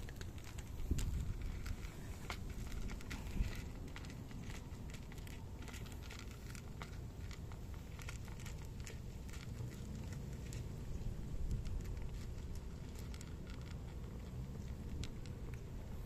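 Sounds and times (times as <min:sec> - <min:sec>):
cats crunching dry kibble: 0:00.0 - 0:16.0.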